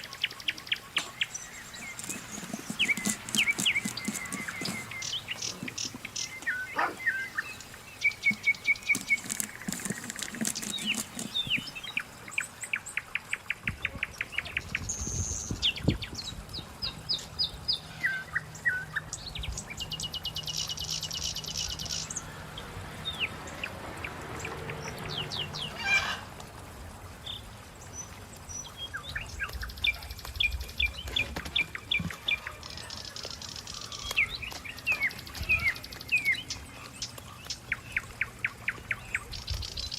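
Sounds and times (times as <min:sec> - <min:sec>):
small birds chirping: 0:00.0 - 0:22.3, 0:27.2 - 0:39.9.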